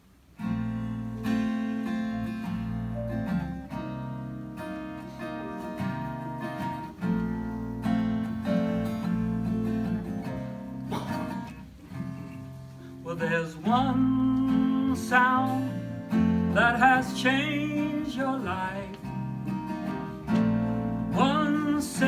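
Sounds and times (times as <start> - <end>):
acoustic guitar strumming chords: 0.4 - 22.0.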